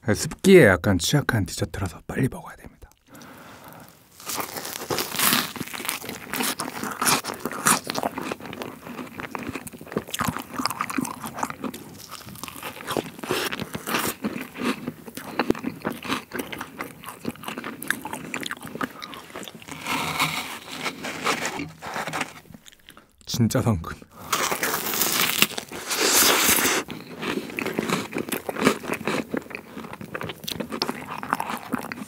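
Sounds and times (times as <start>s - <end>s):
crunching and chewing: 2.9s - 23.2s, 24.2s - 32.0s.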